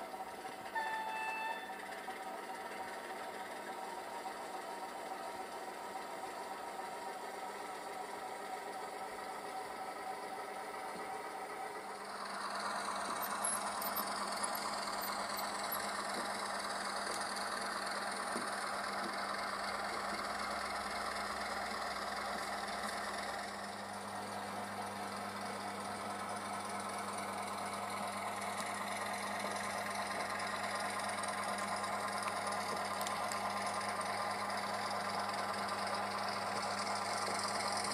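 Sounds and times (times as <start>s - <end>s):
model locomotive diesel engine sound: 0.0s - 37.9s.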